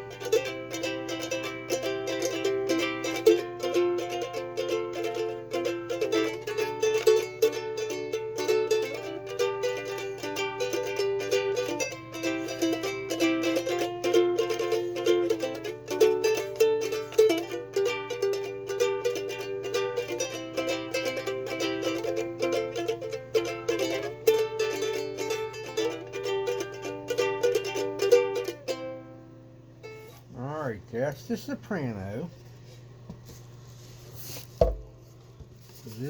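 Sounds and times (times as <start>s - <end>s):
ukulele strumming: 0.0s - 30.3s, 34.3s - 35.1s.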